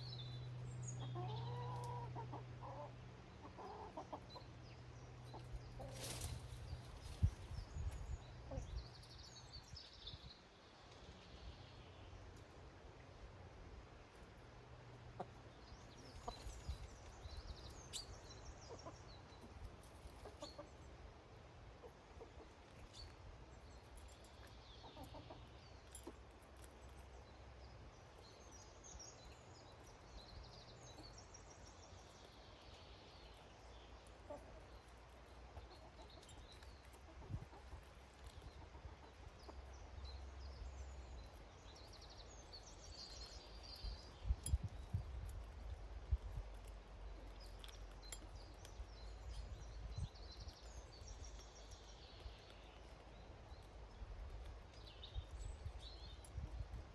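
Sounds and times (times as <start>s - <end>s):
small birds chirping: 0.0s - 13.3s, 14.0s - 56.9s.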